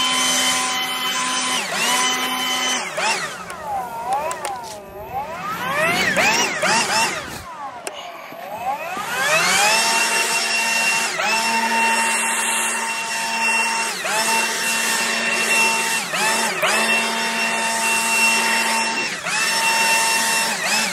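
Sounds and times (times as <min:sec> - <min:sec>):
leaf blower fan whine: 0:00.0 - 0:20.9.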